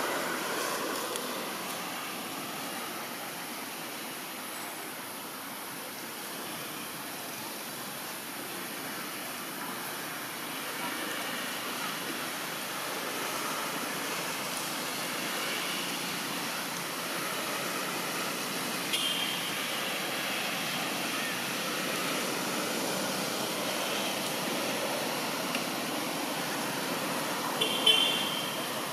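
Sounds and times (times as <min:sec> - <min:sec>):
outdoor background hiss: 0:00.0 - 0:28.9.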